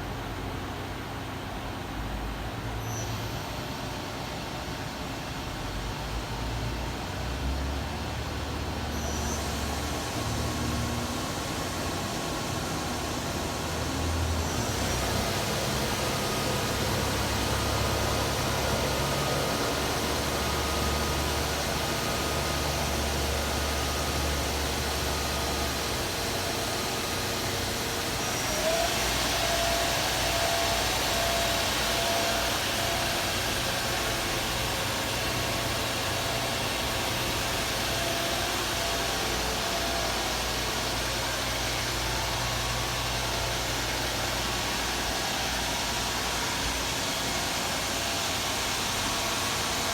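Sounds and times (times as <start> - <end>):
lathe machine hum: 3.9 - 49.9
rising machine whine: 5.7 - 49.9.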